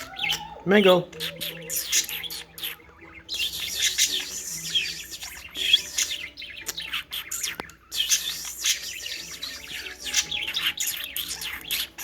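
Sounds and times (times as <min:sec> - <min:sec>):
budgie warbling and chattering: 0:00.0 - 0:12.0.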